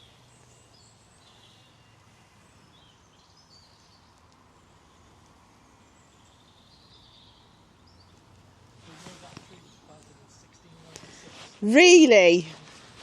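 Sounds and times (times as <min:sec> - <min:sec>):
faint bird chirps: 0:00.0 - 0:12.9
faint outdoor hiss: 0:00.0 - 0:13.0.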